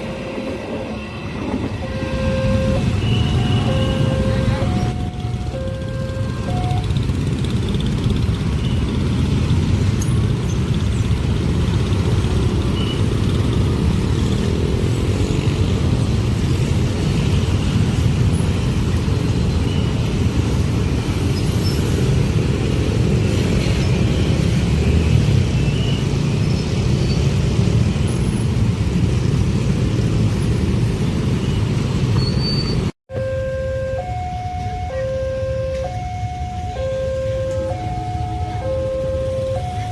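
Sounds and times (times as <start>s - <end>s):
train rumbling past: 0.0s - 32.9s.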